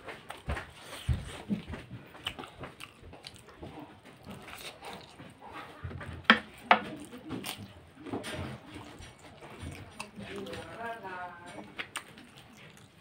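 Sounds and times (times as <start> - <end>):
chewing soft dumplings: 0.0 - 13.0.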